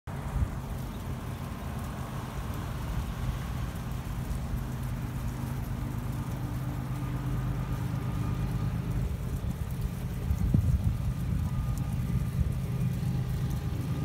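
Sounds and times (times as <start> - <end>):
low engine hum: 0.1 - 14.0.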